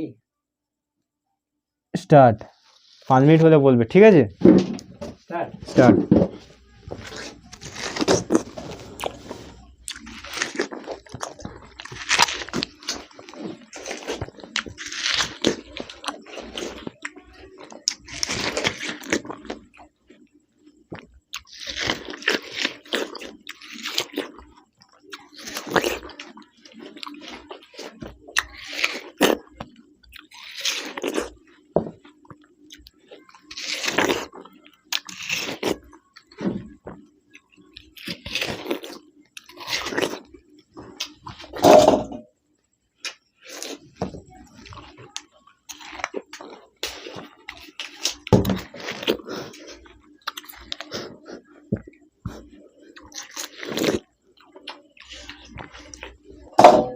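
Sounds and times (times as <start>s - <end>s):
people chewing watermelon: 4.5s - 41.7s, 42.6s - 56.9s.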